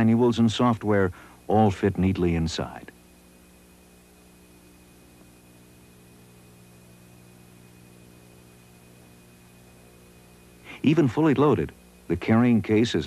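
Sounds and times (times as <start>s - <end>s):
electrical mains hum: 0.0s - 13.0s
thin high whine: 0.0s - 13.0s.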